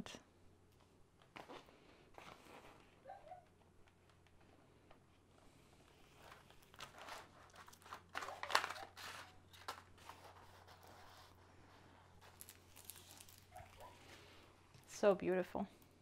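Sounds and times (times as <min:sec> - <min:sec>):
plastic film crinkling and rustling: 0:01.2 - 0:15.0.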